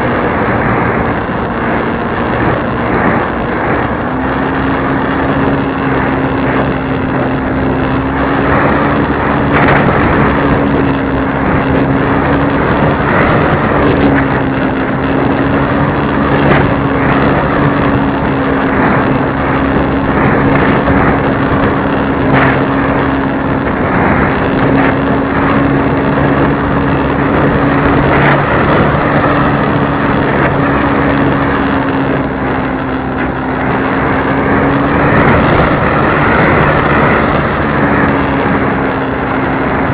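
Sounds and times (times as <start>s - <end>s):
model airplane motor and propeller: 0.0s - 39.9s
rushing airflow: 0.0s - 39.9s.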